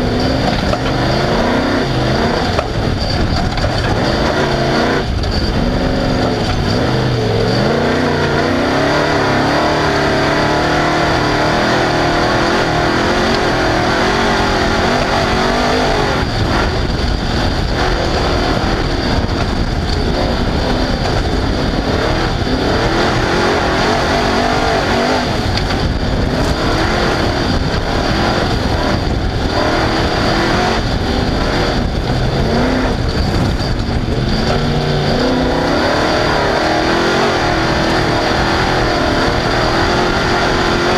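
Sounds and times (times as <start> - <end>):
loud rushing noise: 0.0 - 40.9
race car engine revving: 0.0 - 40.9.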